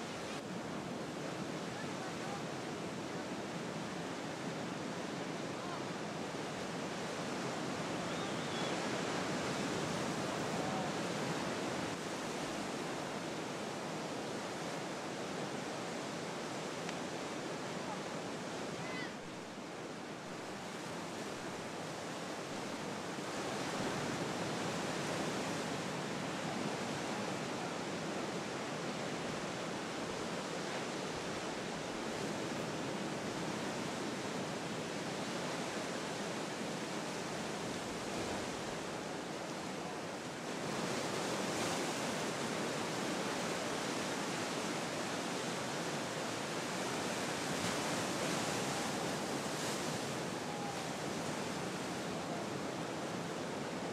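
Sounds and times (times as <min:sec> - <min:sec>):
ocean surf breaking: 0:00.0 - 0:53.9.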